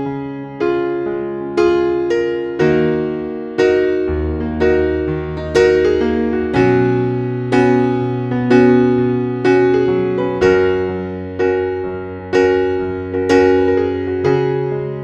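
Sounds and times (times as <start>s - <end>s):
electric piano sustained chords: 0.0s - 15.0s.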